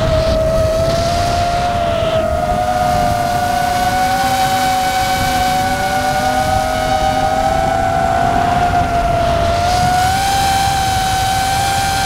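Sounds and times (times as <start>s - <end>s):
drone propellers whining: 0.0s - 12.0s
wind rumble: 0.0s - 12.0s.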